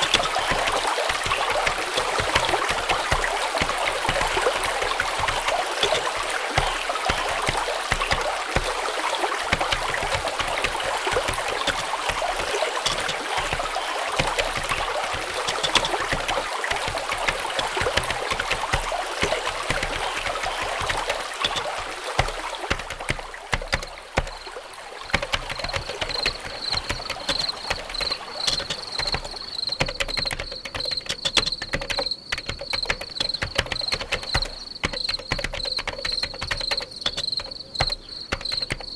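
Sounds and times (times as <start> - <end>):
crickets chirping: 0.0 - 38.9
running water: 0.0 - 38.9.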